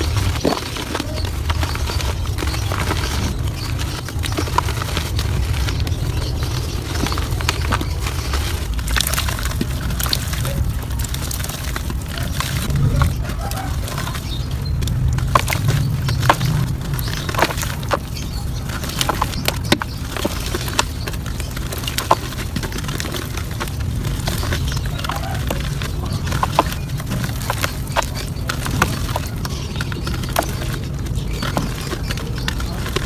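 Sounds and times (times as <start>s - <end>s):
dirt clumps crumbling: 0.0s - 33.0s
steady low rumble: 0.0s - 33.0s.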